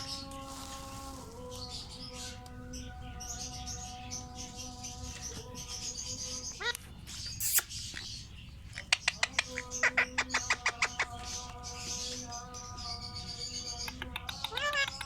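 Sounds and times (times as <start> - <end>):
lovebirds chirping: 0.0 - 15.0.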